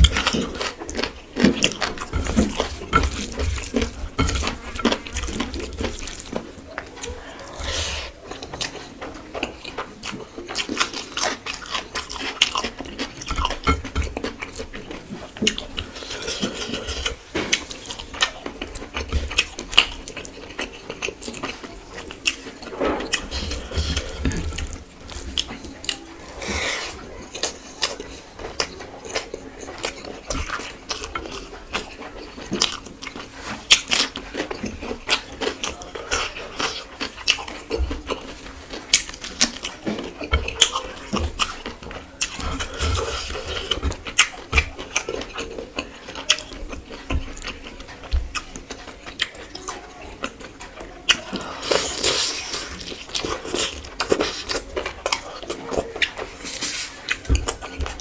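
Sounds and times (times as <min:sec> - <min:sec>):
person chewing and lip-smacking: 0:00.0 - 0:58.0.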